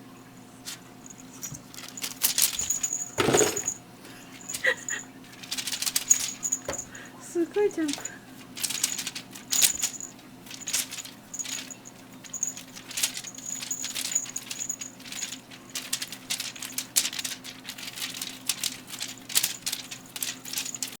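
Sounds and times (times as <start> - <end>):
pet toy crinkling and rattling: 0.7 - 21.0
thin high jingle: 1.0 - 7.0, 7.7 - 21.0.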